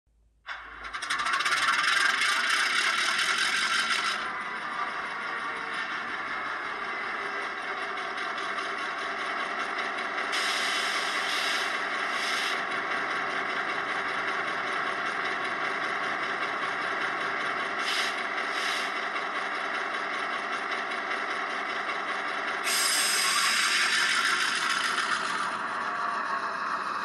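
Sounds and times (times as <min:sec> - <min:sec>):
model diesel engine idling: 0:00.5 - 0:27.0.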